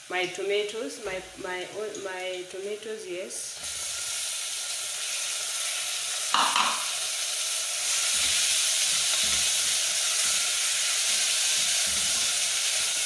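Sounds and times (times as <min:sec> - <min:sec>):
tomatoes sizzling in oil: 0:00.0 - 0:13.0.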